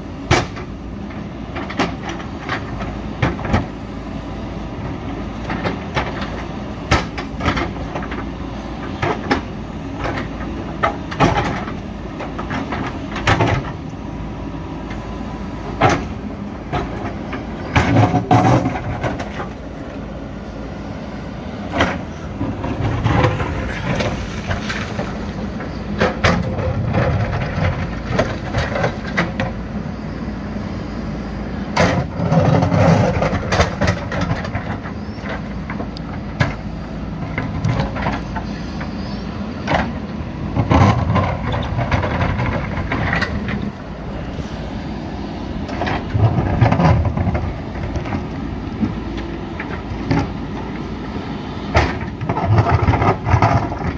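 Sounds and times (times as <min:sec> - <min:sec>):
diesel engine working under load: 0:00.0 - 0:53.9.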